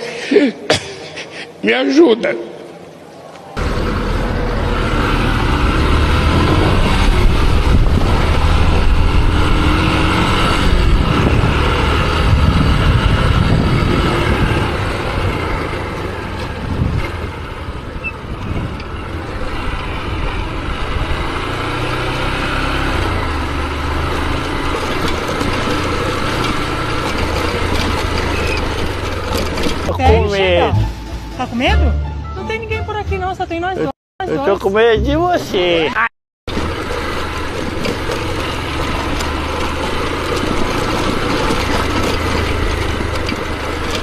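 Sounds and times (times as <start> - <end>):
motorcycle engine rumble: 2.8 - 33.9, 36.5 - 44.0.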